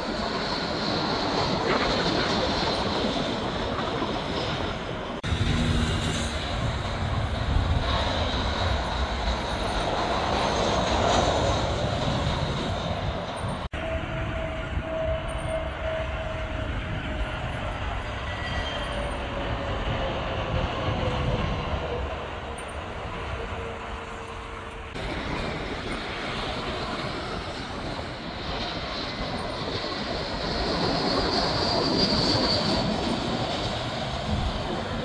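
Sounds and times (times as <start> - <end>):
jet engine whine: 0.0 - 35.0
jet engines rumbling: 0.0 - 35.0.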